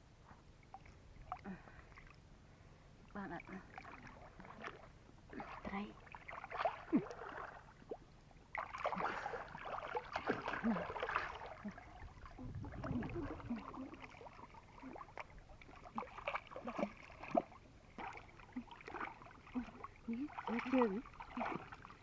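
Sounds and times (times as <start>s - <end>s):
water splashing and sloshing: 0.4s - 22.0s.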